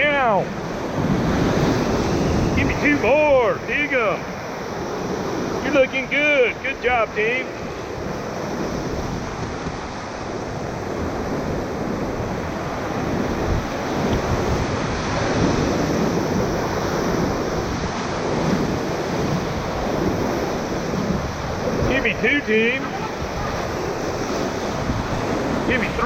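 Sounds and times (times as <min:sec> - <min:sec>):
whitewater rapids rushing: 0:00.0 - 0:26.0
wind buffeting microphone: 0:00.0 - 0:26.0.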